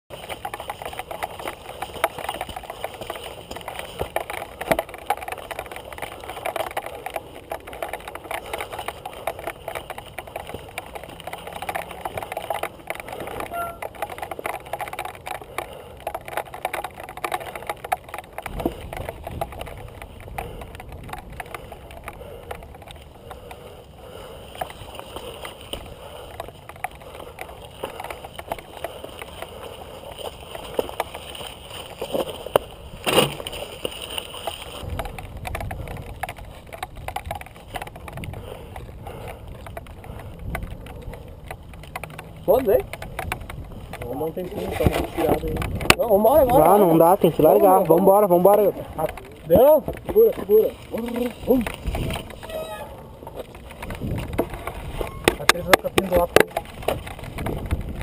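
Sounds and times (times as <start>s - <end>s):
bike rattling over rocks: 0.1s - 58.0s.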